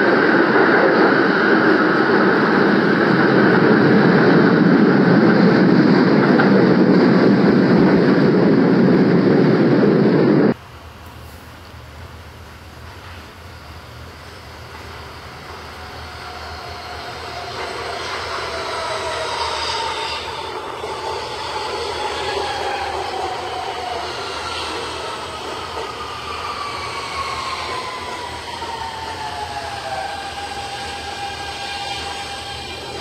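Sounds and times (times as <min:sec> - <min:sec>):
rail and wheel noise: 0:00.0 - 0:33.0
subway train braking: 0:00.0 - 0:33.0.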